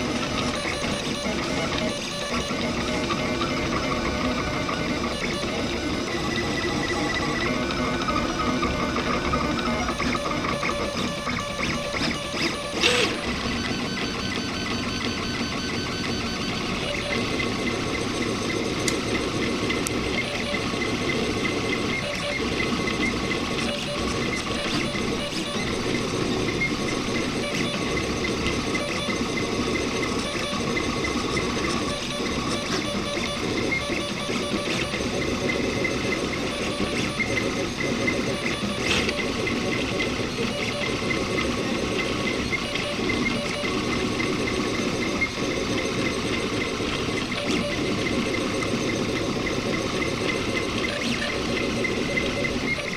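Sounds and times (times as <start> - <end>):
printer stepper motors whirring: 0.0 - 52.9.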